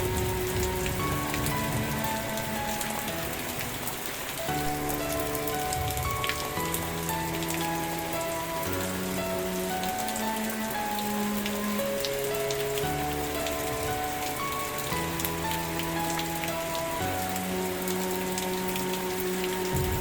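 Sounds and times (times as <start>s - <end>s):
raindrops ticking: 0.0s - 20.0s
soft music of slow chords: 0.0s - 20.0s
steady rain: 0.0s - 20.0s.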